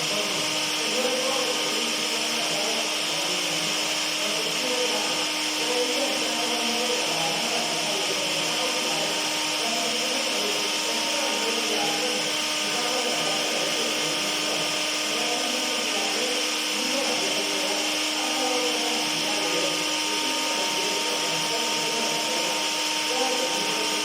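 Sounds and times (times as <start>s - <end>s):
blender motor whirring: 0.0s - 24.0s.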